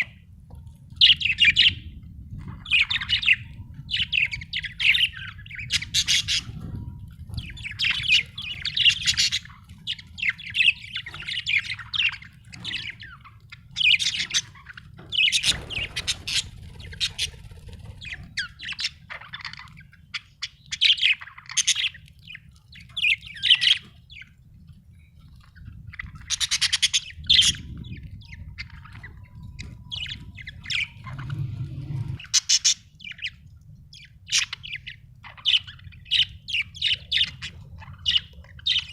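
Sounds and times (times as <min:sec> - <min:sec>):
budgerigars chirping and squawking: 0:00.0 - 0:38.9
faint low rumble: 0:00.0 - 0:38.9.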